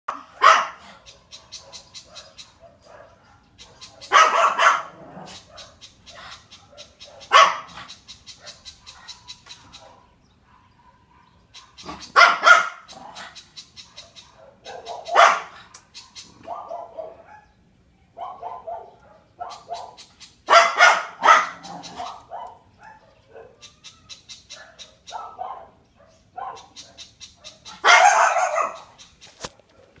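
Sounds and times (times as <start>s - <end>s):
dog barking: 0.1s - 23.8s, 24.5s - 28.9s, 29.6s - 30.0s.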